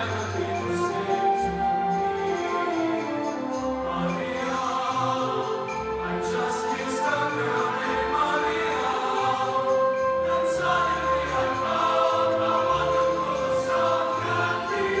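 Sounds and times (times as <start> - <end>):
choir singing: 0.0 - 15.0
instrumental ensemble: 0.0 - 15.0.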